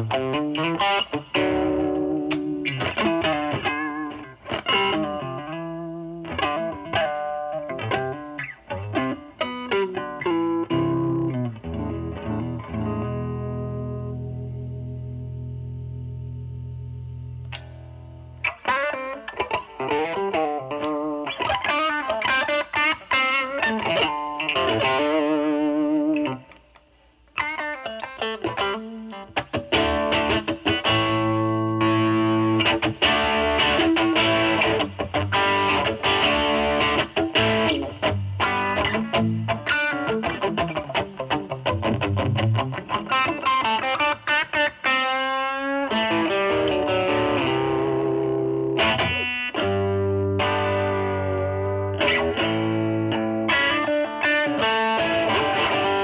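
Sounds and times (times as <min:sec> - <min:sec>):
overdriven electric guitar blues: 0:00.0 - 0:56.0.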